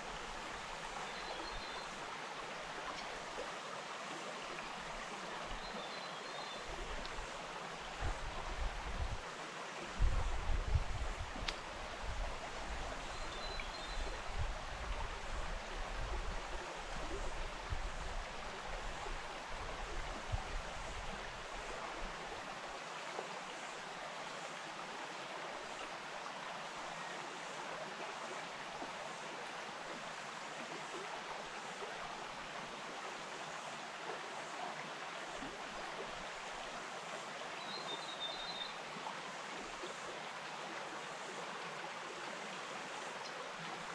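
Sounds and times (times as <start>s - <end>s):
stream flowing: 0.0s - 43.9s.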